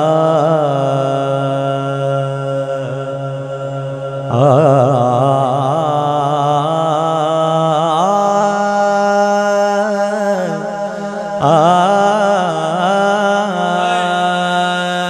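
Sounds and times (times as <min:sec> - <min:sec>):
man singing wordless melismas: 0:00.0 - 0:15.0.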